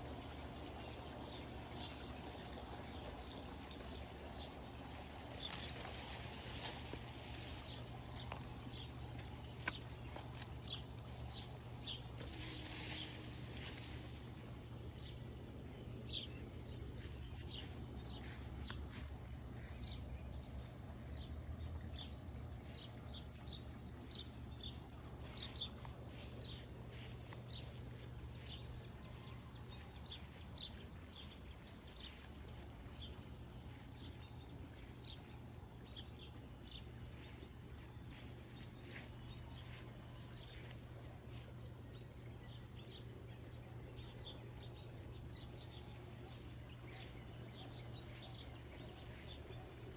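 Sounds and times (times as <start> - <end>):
faint low hum: 0.0 - 49.9
small birds chirping: 0.0 - 49.9.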